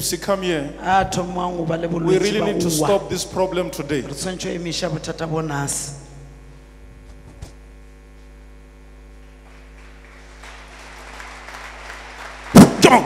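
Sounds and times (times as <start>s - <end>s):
mains hum: 0.0s - 13.0s.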